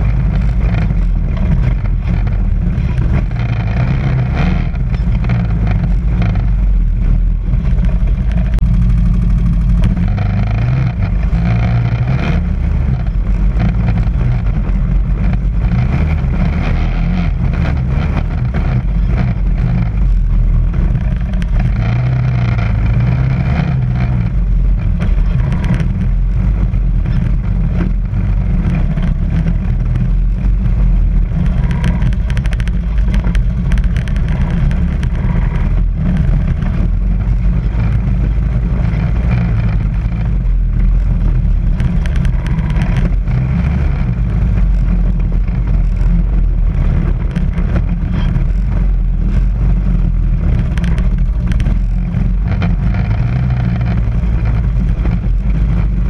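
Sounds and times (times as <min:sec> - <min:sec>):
quad bike engine rumbling: 0:00.0 - 0:56.0.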